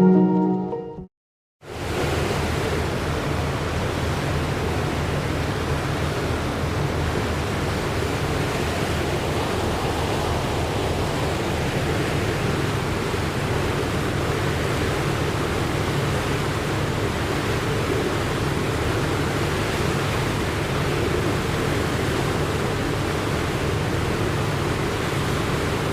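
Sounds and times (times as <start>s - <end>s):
water rushing along hull: 1.7s - 25.9s.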